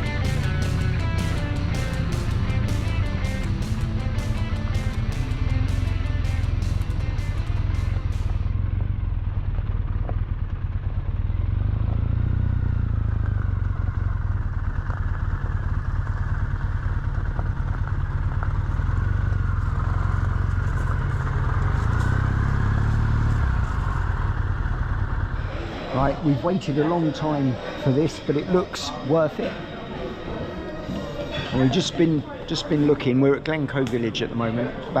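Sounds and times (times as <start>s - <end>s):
motorcycle engine rumble: 0.0s - 34.3s.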